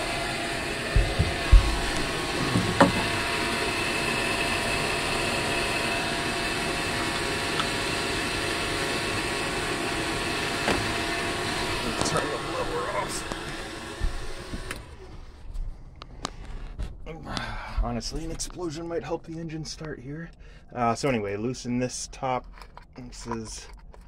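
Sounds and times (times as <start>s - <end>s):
blower fan running: 0.0s - 21.4s.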